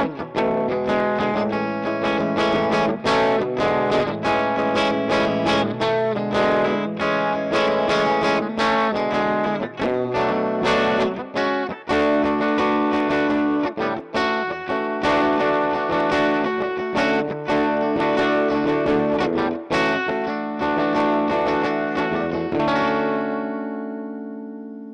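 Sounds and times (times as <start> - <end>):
electric guitar through amplifier: 0.0 - 24.9.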